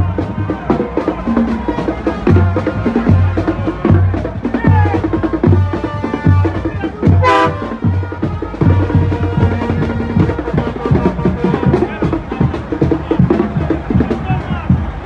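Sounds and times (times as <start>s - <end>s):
drum and bass music: 0.0s - 15.0s.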